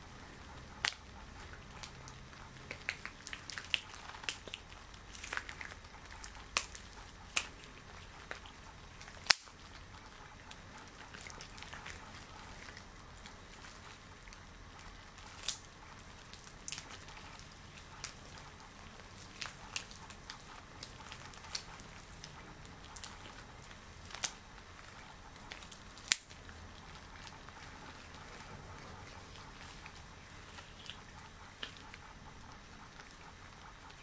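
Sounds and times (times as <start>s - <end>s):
latex gloves rubbing: 0.0s - 34.0s.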